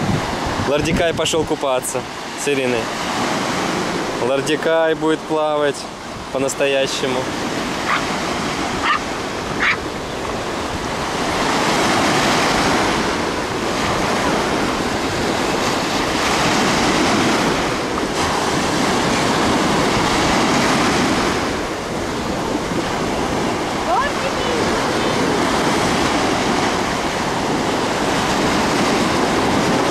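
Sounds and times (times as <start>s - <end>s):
surf breaking on shore: 0.0s - 29.9s.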